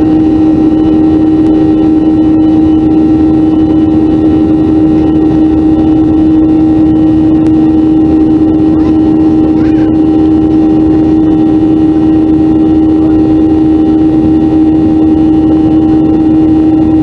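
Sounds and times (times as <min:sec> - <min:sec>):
jet engine drone in cabin: 0:00.0 - 0:17.0.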